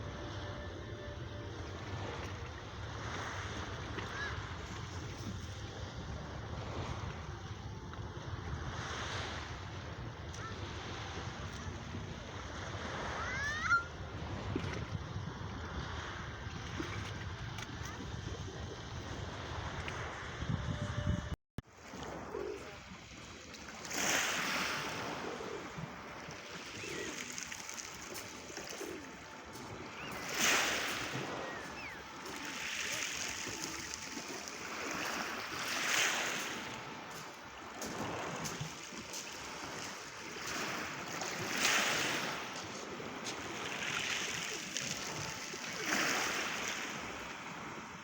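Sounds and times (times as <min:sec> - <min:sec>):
waves breaking on shore: 0:00.0 - 0:48.0.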